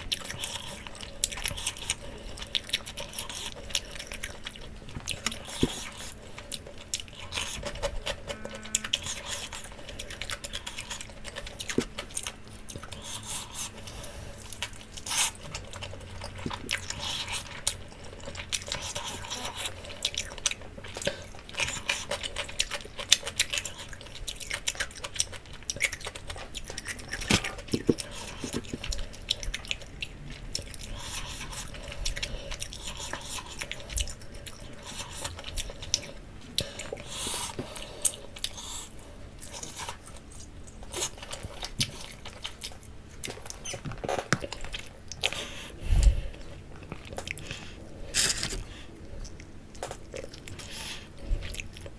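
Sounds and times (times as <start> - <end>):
chewing and biting chicken: 0.0 - 51.9.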